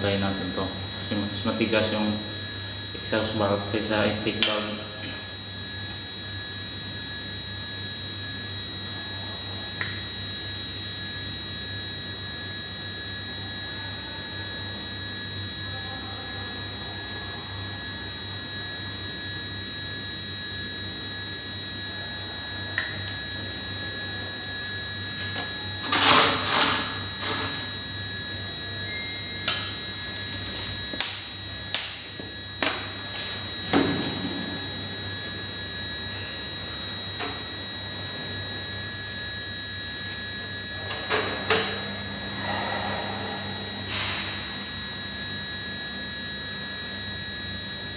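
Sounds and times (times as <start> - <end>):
steady hum with high whine: 0.0 - 47.9.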